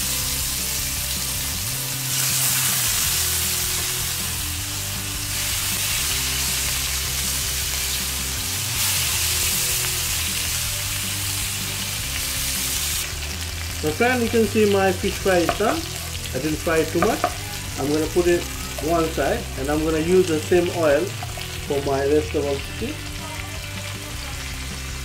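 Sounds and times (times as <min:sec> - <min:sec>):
background music: 0:00.0 - 0:25.0
fish sizzling in hot oil: 0:00.0 - 0:25.0.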